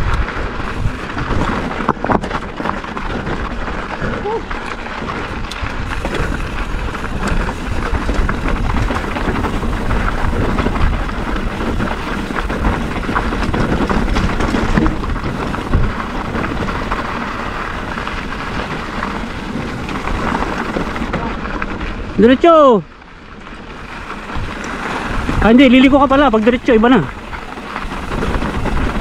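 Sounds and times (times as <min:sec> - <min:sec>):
bike clicks and rattles: 0:00.0 - 0:29.0
tyres crunching on gravel: 0:00.0 - 0:29.0.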